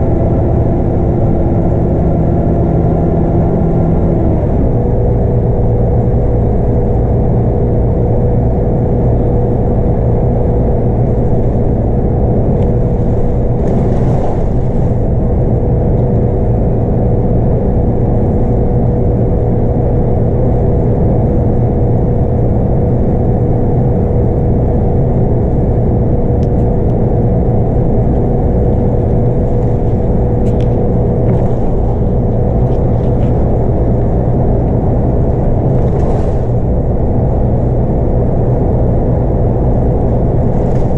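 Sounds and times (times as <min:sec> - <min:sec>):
bus diesel engine rumble: 0:00.0 - 0:40.9
road noise: 0:00.0 - 0:40.9
steady whine: 0:00.0 - 0:40.9.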